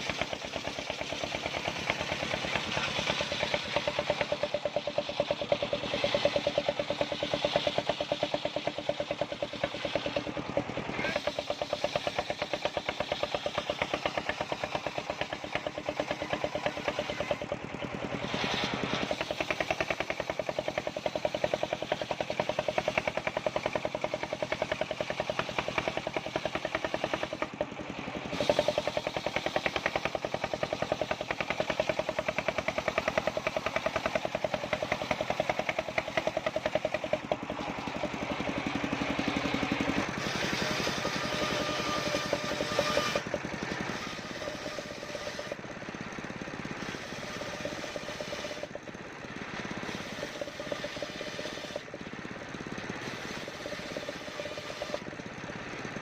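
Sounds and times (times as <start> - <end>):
circular sawmill running: 0.0 - 56.0.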